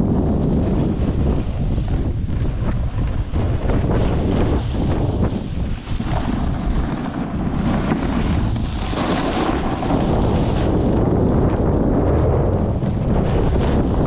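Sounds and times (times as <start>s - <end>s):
wind buffeting microphone: 0.0s - 14.0s
sliding over packed snow: 0.1s - 14.0s.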